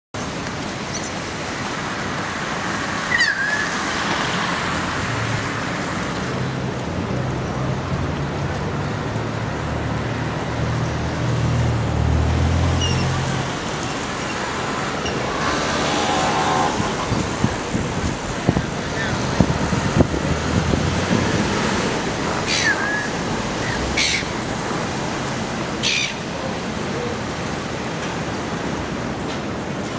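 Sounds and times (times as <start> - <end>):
road traffic noise: 0.1 - 29.9
heavy engine humming: 4.8 - 29.9.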